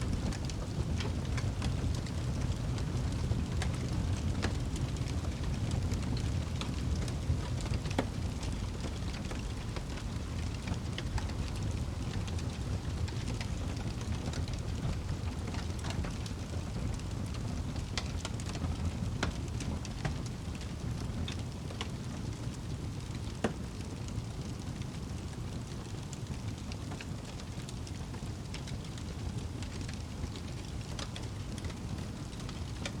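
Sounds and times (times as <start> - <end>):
fire crackling and popping: 0.0 - 33.0
fire flames rumbling: 0.0 - 33.0.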